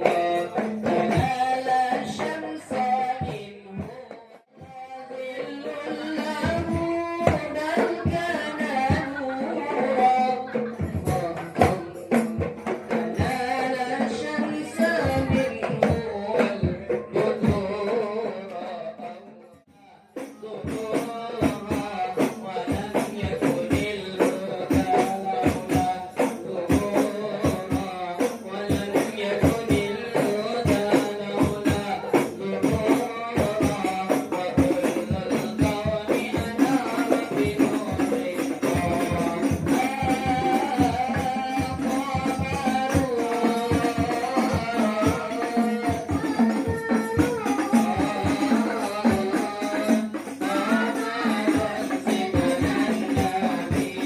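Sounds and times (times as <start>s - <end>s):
frame drums beating fast rhythm: 0.0s - 54.0s
voices singing: 0.0s - 54.0s.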